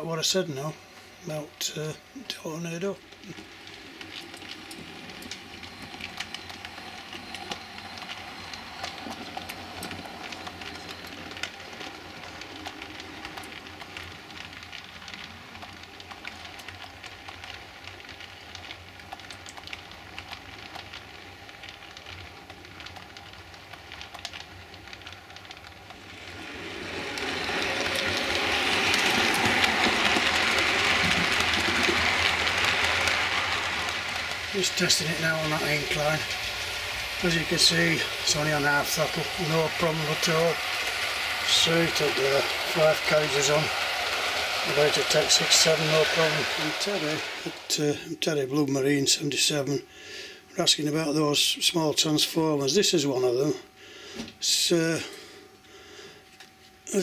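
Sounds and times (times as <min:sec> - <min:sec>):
model train whirring: 0:00.0 - 0:57.0.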